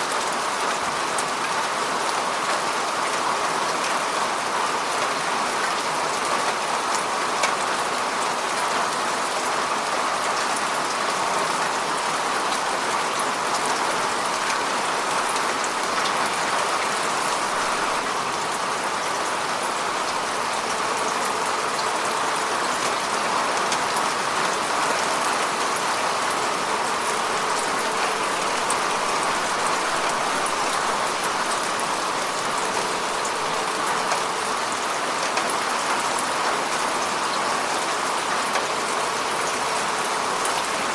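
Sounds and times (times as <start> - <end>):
rain falling on a lake: 0.0 - 40.9.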